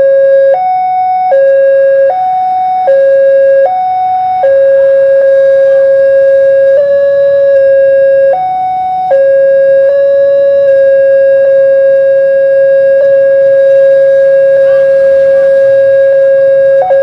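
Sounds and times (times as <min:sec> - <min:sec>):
level crossing alarm tone: 0:00.0 - 0:17.0.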